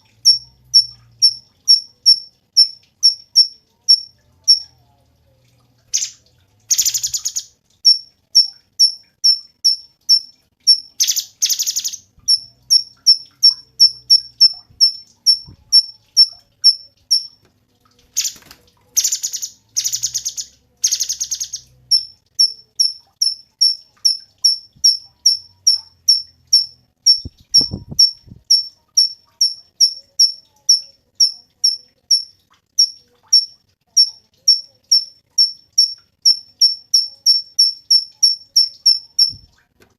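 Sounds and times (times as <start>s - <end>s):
bird chirping and trilling: 0.1s - 4.7s, 5.9s - 17.4s, 18.1s - 39.5s.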